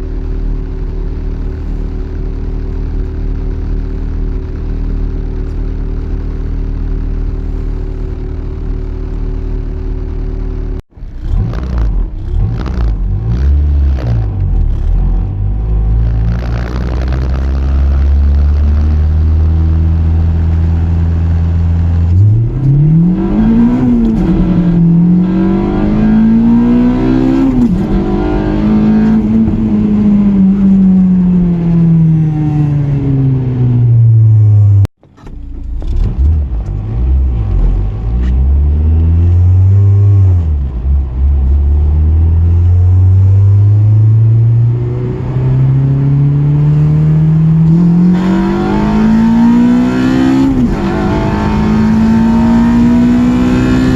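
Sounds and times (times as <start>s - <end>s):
car engine revving: 7.4s - 53.9s.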